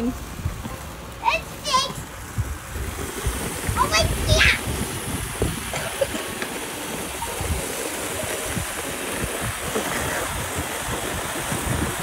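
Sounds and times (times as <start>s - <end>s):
wind rumbling on microphone: 0.0s - 0.8s, 1.6s - 12.0s.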